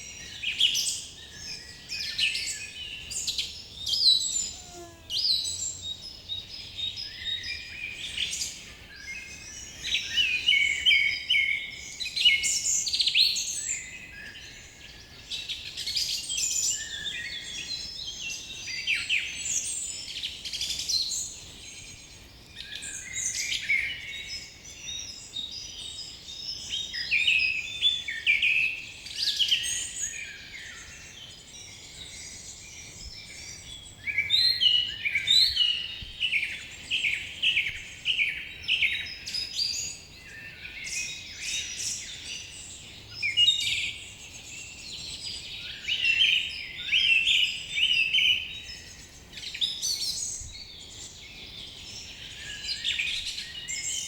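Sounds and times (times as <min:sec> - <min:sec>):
forest bird chorus: 0:00.0 - 0:54.0.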